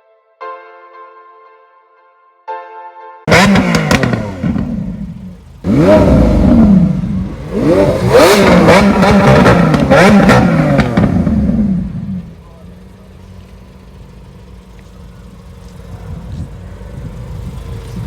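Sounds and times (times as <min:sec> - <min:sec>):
car engine revving: 0:03.3 - 0:18.0
exhaust cracks: 0:03.3 - 0:18.0.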